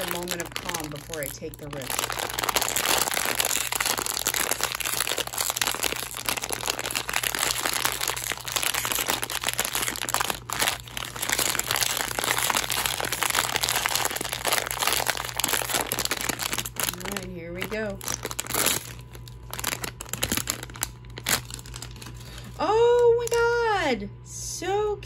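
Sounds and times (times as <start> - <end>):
plastic bag crinkling: 0.0 - 23.6.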